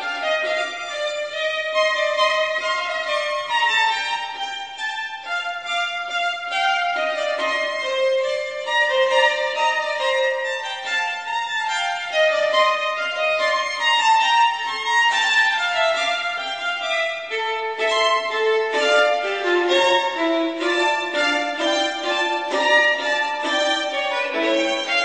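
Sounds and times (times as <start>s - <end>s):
violin melody: 0.0s - 25.0s.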